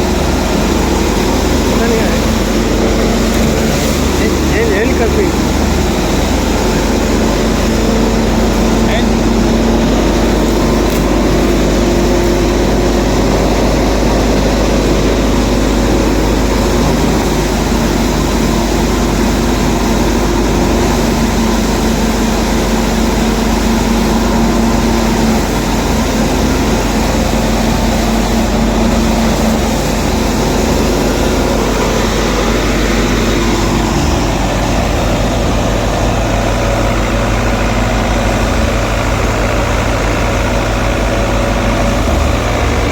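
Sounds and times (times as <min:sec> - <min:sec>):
thresher drum and fans churning: 0:00.0 - 0:42.9
tractor diesel engine running: 0:00.0 - 0:42.9.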